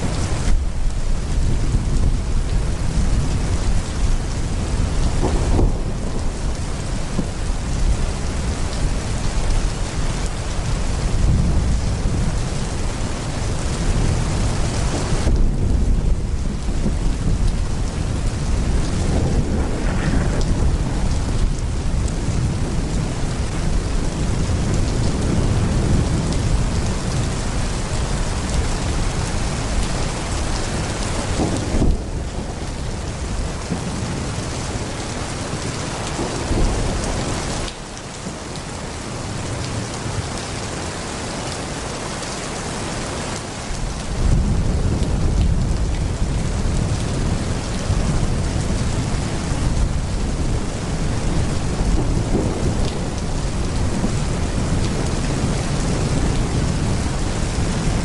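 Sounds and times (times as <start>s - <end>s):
low thunder rumbling: 0.0s - 40.4s, 43.6s - 58.0s
heavy rain pouring: 0.0s - 58.0s.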